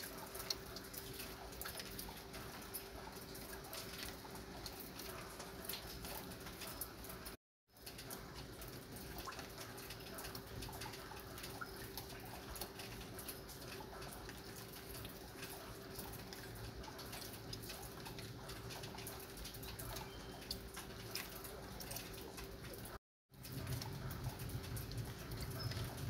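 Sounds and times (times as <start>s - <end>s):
light rain pattering: 0.0s - 26.0s.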